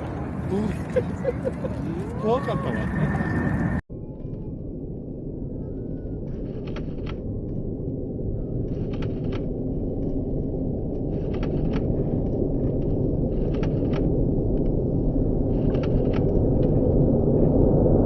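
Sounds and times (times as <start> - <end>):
jet airliner engines rumbling: 0.0 - 18.0.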